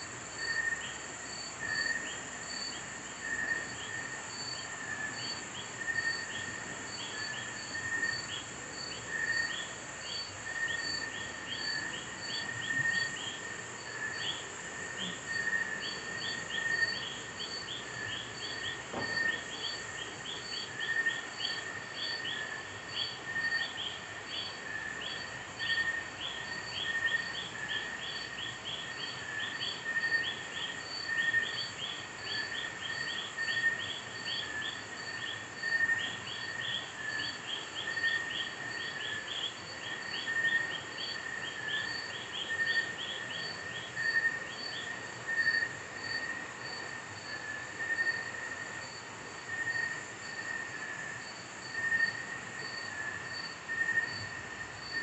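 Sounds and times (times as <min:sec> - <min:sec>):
crickets chirping: 0:00.0 - 0:55.0
insect steady high hiss: 0:00.0 - 0:55.0.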